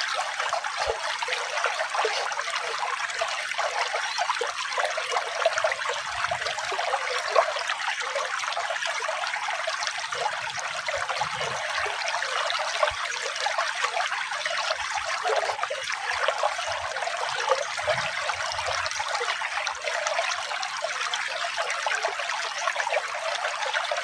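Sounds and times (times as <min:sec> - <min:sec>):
running water trickling: 0:00.0 - 0:24.0.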